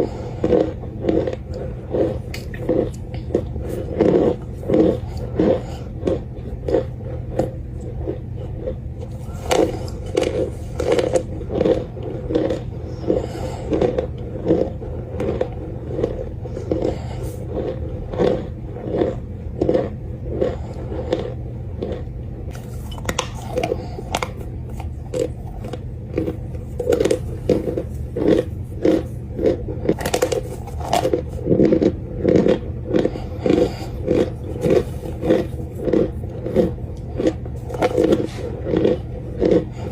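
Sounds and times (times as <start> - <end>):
crunchy chewing: 0.0 - 39.9
steady low hum: 0.0 - 39.9.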